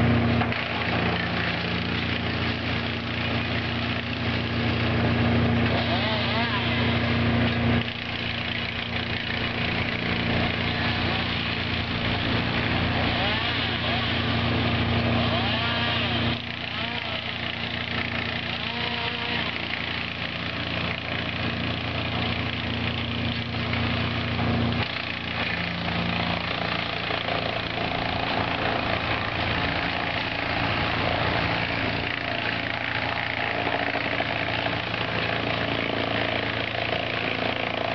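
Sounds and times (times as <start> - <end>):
wood chipper engine running: 0.0 - 37.9.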